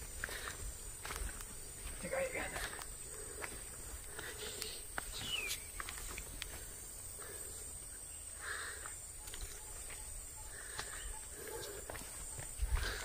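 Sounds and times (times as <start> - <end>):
high-pitched insect drone: 1.0 - 13.0.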